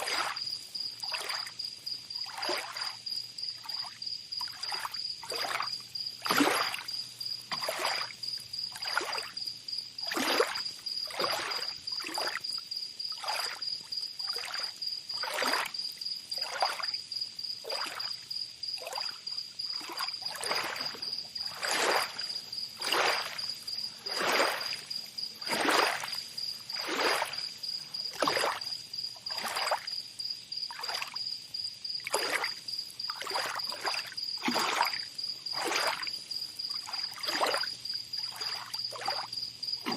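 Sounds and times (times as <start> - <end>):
water lapping and splashing: 0.0 - 17.0, 17.6 - 31.3, 32.0 - 39.9.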